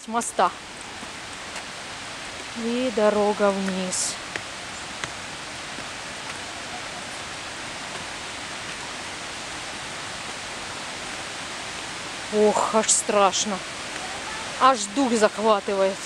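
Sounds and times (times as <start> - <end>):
river and waterfall rushing: 0.0 - 16.0.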